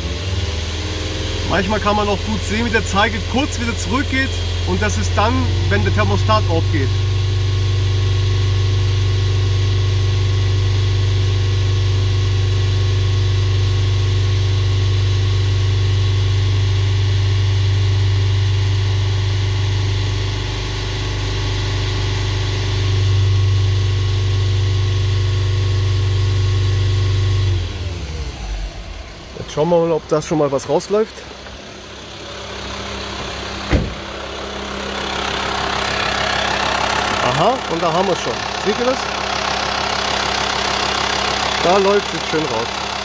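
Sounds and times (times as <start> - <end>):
van engine idling: 0.0 - 43.0.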